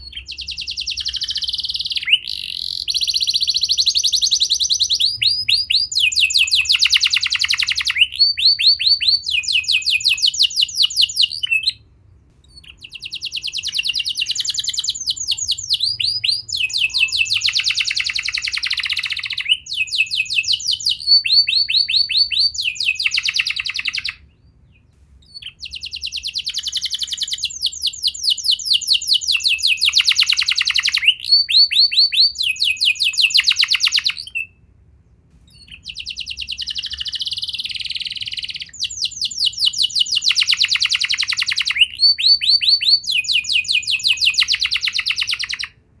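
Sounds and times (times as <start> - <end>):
canary singing trills: 0.0 - 34.6, 35.4 - 45.8.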